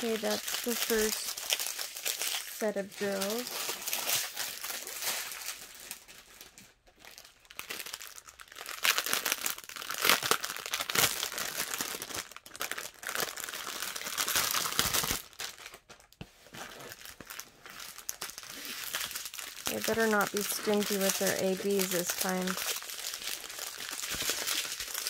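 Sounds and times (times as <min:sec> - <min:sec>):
cellophane crinkling and rustling: 0:00.0 - 0:25.0.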